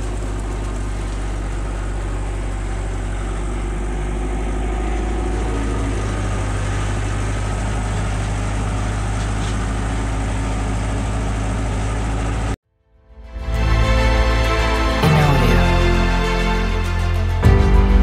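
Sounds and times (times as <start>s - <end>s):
tractor diesel engine droning: 0.0s - 12.6s, 13.2s - 18.0s.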